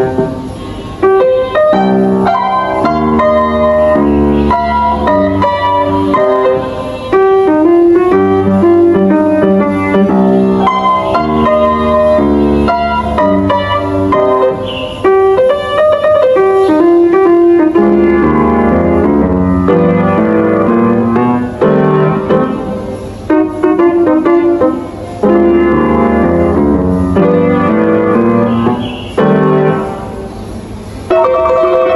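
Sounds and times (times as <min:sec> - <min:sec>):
upright piano playing: 0:00.0 - 0:31.9.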